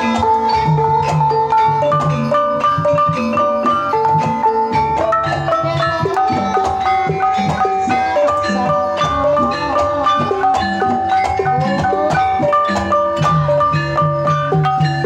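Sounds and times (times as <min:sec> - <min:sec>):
drums and gongs: 0:00.0 - 0:15.0.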